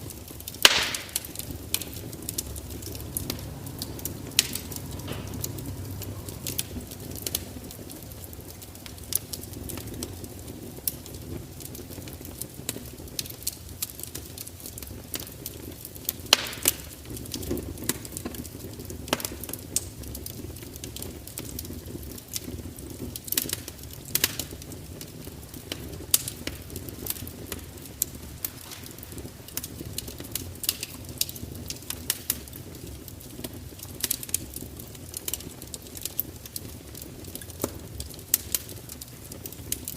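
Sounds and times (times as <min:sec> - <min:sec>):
fire crackling and popping: 0:00.0 - 0:39.9
low rumble of burning: 0:00.0 - 0:39.9.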